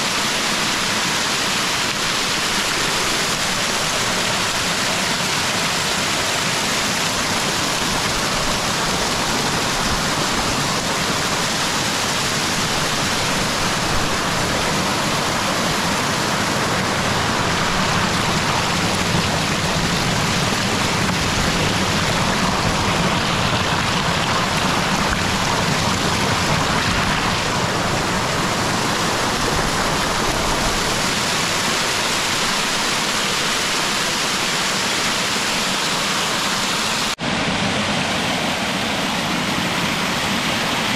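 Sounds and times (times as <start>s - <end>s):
water pouring over rocks: 0.0s - 37.2s.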